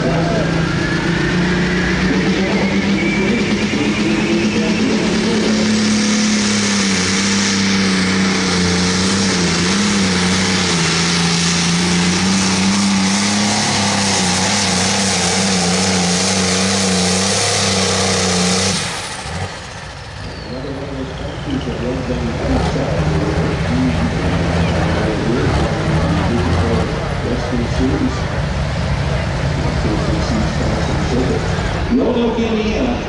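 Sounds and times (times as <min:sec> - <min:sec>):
turbo whine: 0:00.0 - 0:28.3
diesel engine running under load: 0:00.0 - 0:33.0.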